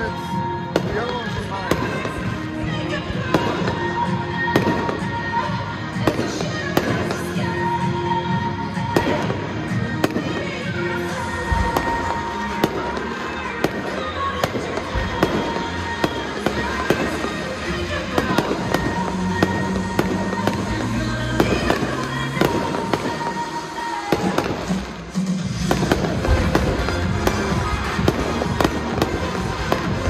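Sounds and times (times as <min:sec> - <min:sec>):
fireworks bangs: 0:00.0 - 0:30.0
music: 0:00.0 - 0:30.0.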